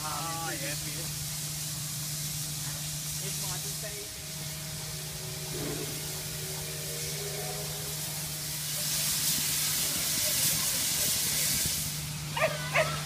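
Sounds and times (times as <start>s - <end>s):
steady low hum: 0.0s - 13.0s
steam locomotive hissing: 0.0s - 13.0s.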